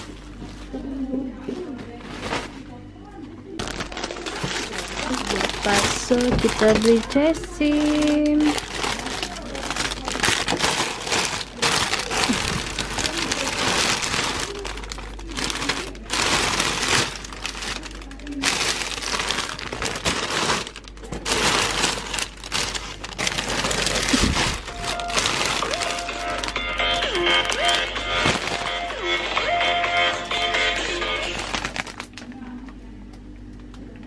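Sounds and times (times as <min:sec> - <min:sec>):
plastic bags crinkling: 0:01.8 - 0:02.8, 0:03.6 - 0:32.6.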